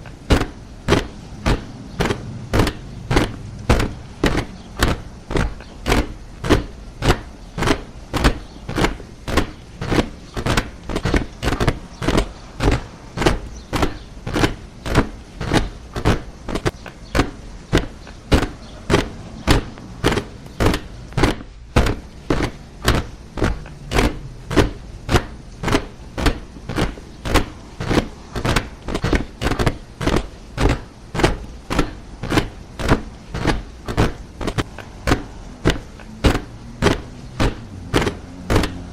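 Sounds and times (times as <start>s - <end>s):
soldiers marching in step: 0.0s - 38.9s.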